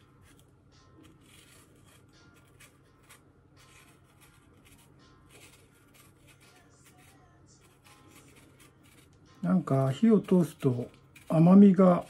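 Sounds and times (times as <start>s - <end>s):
knife scraping fruit skin: 0.0s - 12.0s.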